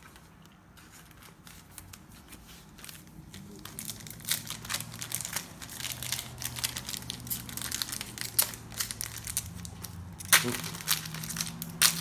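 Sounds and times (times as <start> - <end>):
wrappers crinkling and tearing: 0.0 - 12.0.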